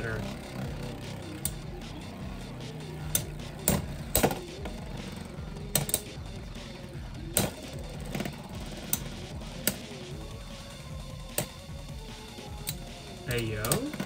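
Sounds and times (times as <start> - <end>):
background music: 0.0 - 14.0
spinning tops whirring: 0.0 - 14.0.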